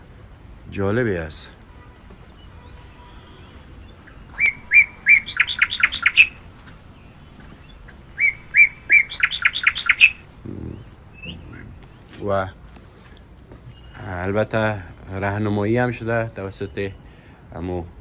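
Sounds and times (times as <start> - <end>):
songbird singing: 0.8 - 17.1.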